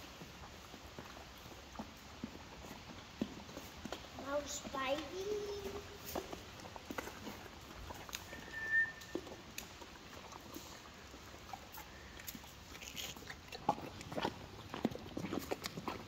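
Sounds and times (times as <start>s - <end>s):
horses nibbling feed and straw: 0.0s - 16.0s.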